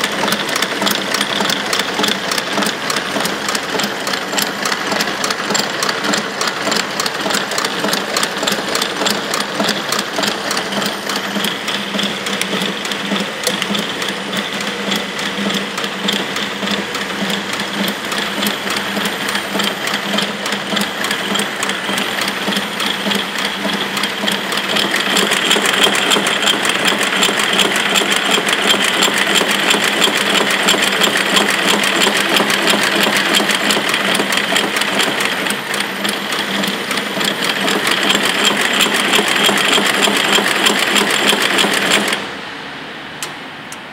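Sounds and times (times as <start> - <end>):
wrapping machine clattering: 0.0 - 42.2.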